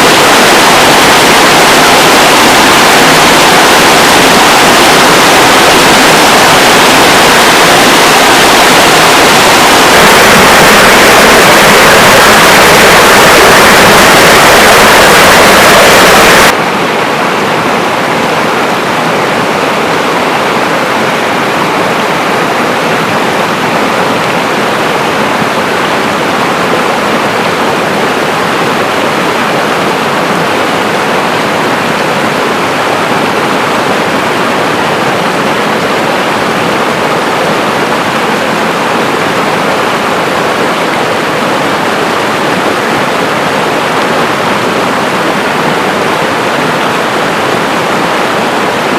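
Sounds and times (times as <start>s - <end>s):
harsh rushing noise: 0.0s - 48.9s
river water rushing: 0.0s - 48.9s.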